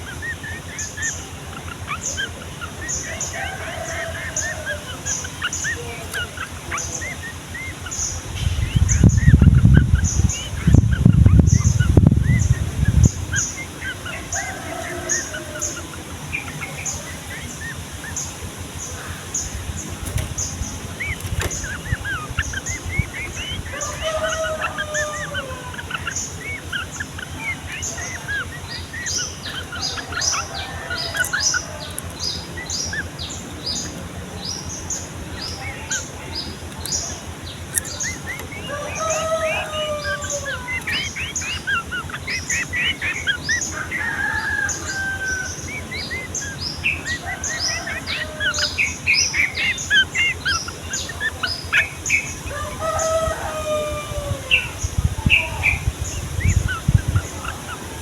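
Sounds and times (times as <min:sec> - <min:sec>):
bulbuls chirping and singing: 0:00.0 - 0:58.0.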